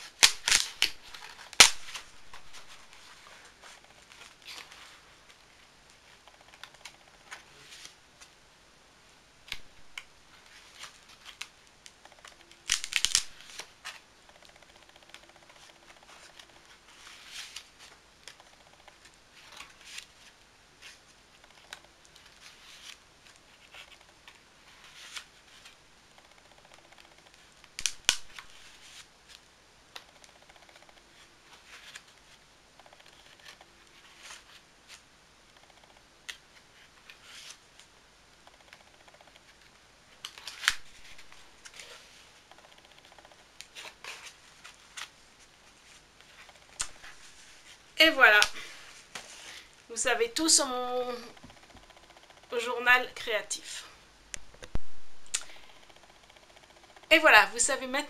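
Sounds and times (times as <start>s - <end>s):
pages being turned: 0.0s - 8.3s, 9.5s - 49.7s.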